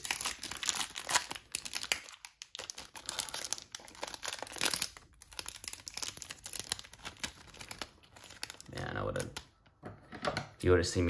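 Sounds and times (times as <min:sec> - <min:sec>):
foil wrapper crinkling and tearing: 0:00.0 - 0:09.5.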